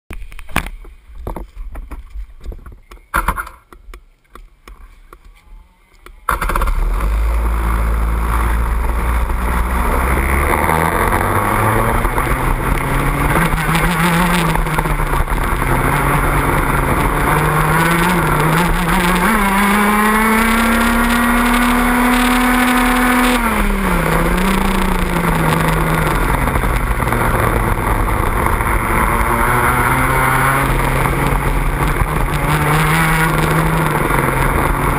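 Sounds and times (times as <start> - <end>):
racing kart engine: 6.3 - 34.9.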